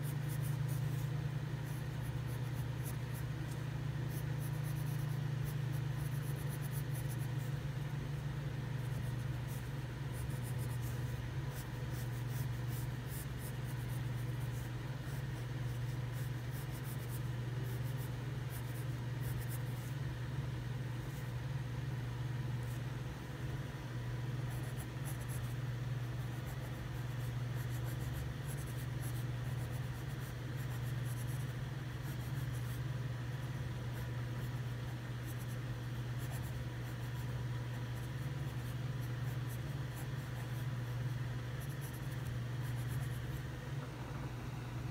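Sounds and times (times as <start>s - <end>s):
pencil scratching on paper: 0.0s - 20.0s, 24.5s - 32.8s, 33.4s - 43.5s
steady low hum: 0.0s - 44.9s.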